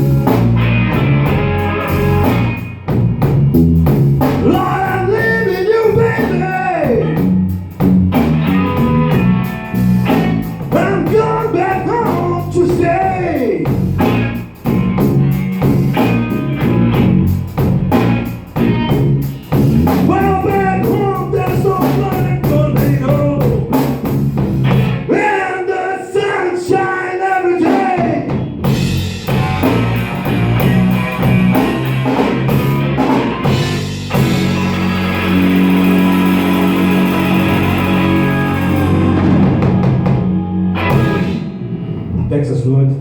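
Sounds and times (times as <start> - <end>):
lead guitar with bent notes: 0.0 - 25.1, 28.3 - 42.4
slow blues band: 0.0 - 42.4.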